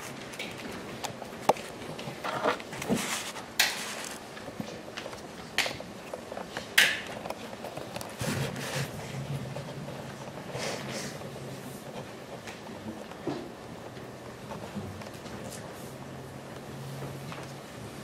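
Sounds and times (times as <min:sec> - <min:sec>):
sheet music rustling: 0:00.0 - 0:18.0.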